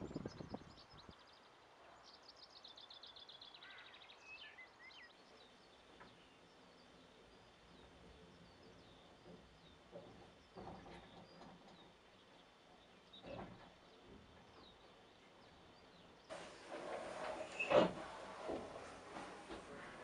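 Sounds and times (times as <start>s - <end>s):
songbird singing: 0.0s - 16.4s
faint bird chirps: 0.1s - 16.3s.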